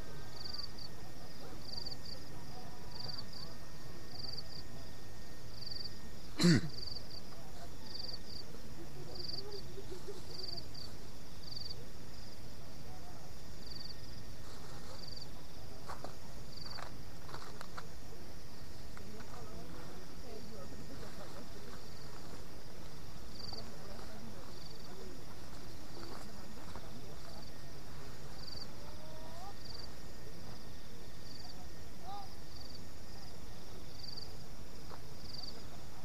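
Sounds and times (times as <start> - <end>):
night insects chirping: 0.0 - 36.0.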